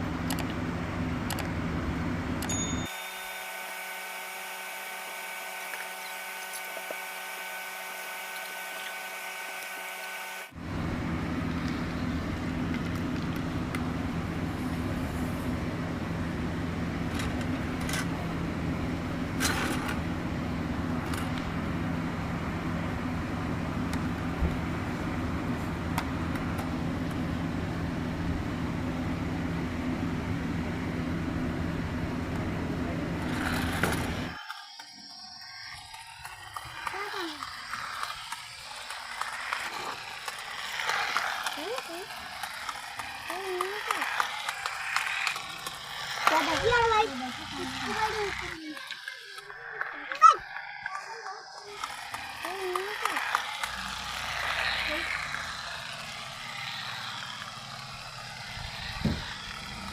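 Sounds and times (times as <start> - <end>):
toy train electric motor whine: 2.4 - 59.9.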